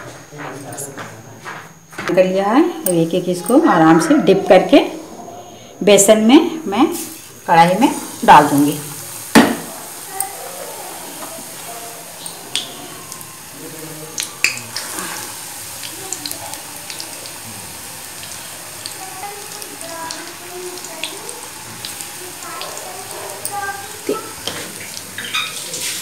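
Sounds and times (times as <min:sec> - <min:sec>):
deep-frying sizzle and bubbling: 0:04.4 - 0:26.0.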